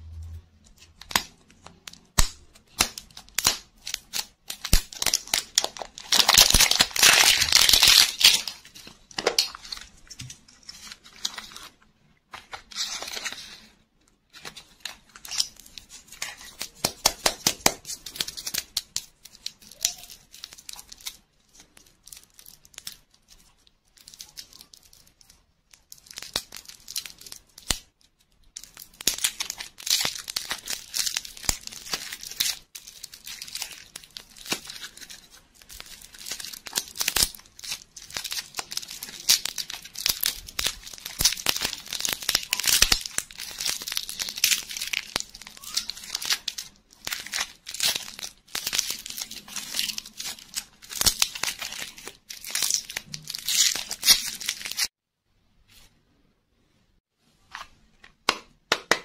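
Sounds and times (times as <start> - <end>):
wrapper crinkling and tearing: 0.1 - 54.9.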